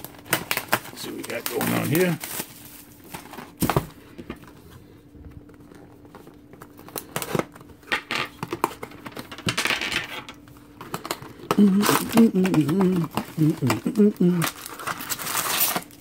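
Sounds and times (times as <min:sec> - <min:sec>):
plastic wrapping crinkling: 0:00.0 - 0:09.5, 0:10.1 - 0:16.0.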